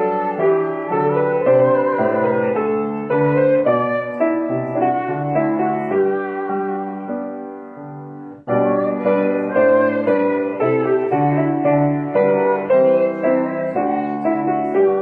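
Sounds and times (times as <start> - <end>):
piano playing hymn chords: 0.0 - 15.0.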